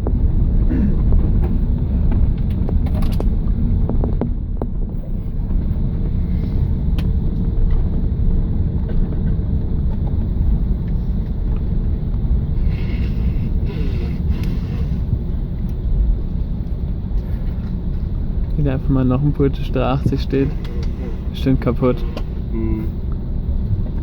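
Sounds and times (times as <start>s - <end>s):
aircraft cabin rumble: 0.0s - 24.0s
faint hum: 0.0s - 24.0s.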